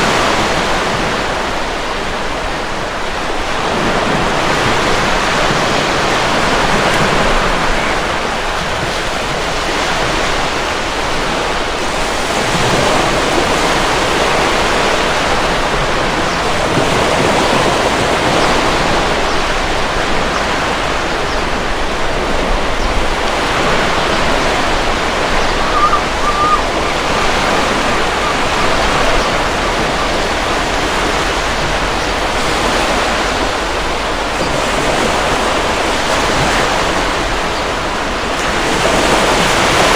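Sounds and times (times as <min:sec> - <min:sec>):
surf washing against rocks: 0:00.0 - 0:39.9.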